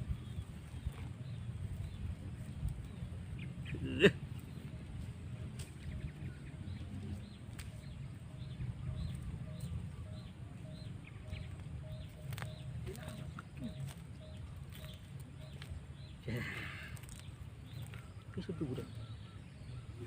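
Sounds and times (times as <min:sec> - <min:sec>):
steady low rumble: 0:00.0 - 0:20.0
bird call notes: 0:02.9 - 0:20.0.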